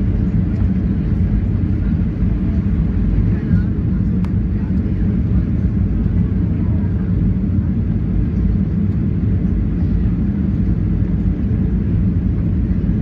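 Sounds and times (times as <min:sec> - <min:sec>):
airflow over airframe: 0:00.0 - 0:13.0
jet engine rumble: 0:00.0 - 0:13.0.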